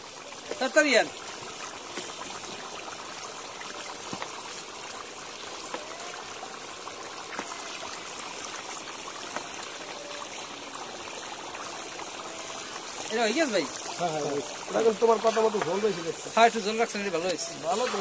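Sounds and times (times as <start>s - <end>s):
curry bubbling at a simmer: 0.0s - 18.0s
wood fire crackling: 0.0s - 18.0s.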